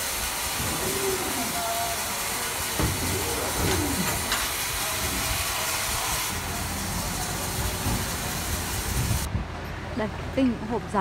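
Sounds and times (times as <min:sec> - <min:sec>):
steady hissing: 0:00.0 - 0:09.3.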